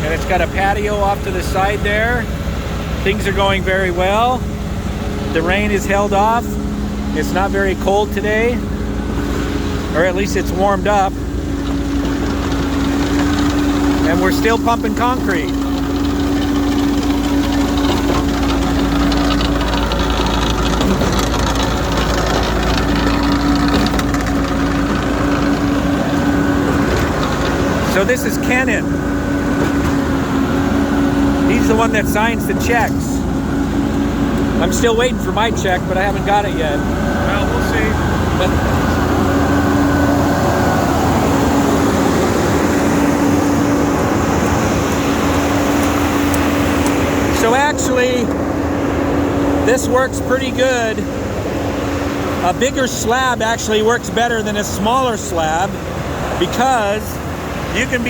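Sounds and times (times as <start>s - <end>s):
machinery engine droning: 0.0s - 58.0s.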